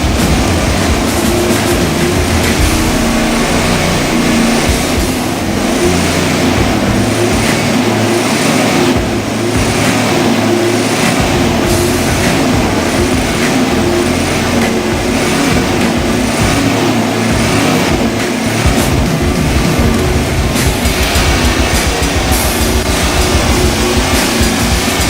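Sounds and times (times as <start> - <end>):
broad rushing noise: 0.0 - 25.0
truck engine running rough: 0.0 - 25.0.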